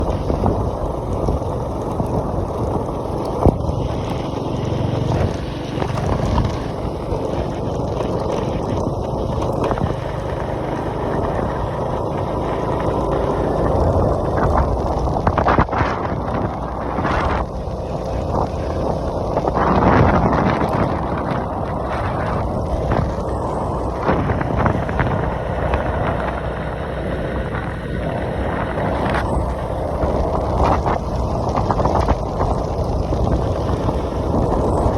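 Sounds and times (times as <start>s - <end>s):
diesel construction machinery rumbling: 0.0s - 34.9s.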